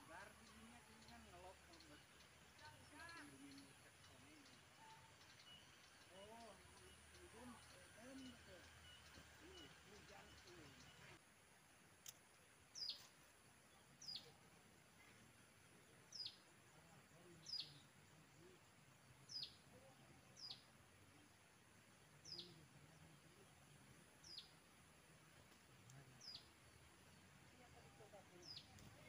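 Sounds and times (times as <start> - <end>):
faint outdoor hiss: 0.0 - 29.0.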